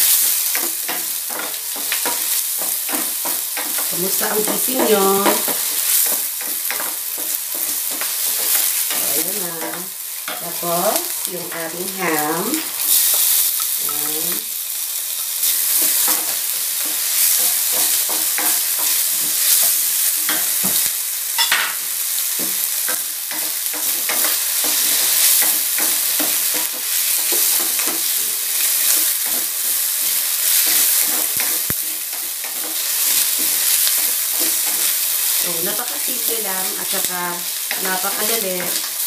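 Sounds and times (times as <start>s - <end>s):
meat sizzling in oil: 0.0s - 39.0s
wooden spoon scraping a pan: 0.1s - 14.5s, 15.4s - 20.9s, 22.4s - 39.0s.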